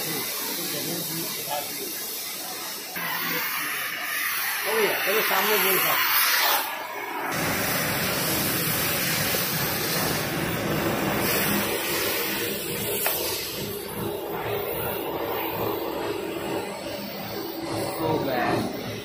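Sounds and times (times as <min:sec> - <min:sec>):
cutting torch hissing: 0:00.0 - 0:19.0.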